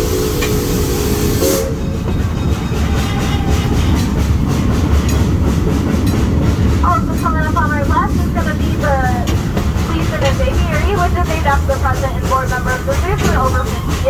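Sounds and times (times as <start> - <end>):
train whistle chord: 0.0 - 6.2, 6.8 - 14.0
train running rumble: 0.0 - 14.0
wheels clickety-clack over rail joints: 0.0 - 14.0.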